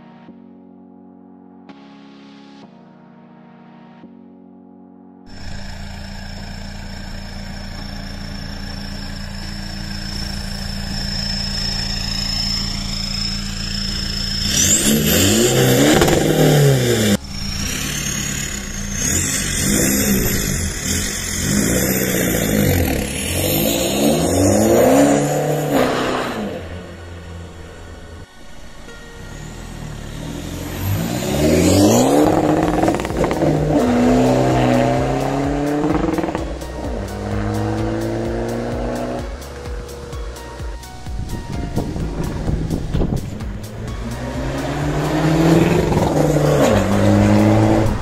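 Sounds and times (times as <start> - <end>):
diesel engine revving: 5.3 - 48.0.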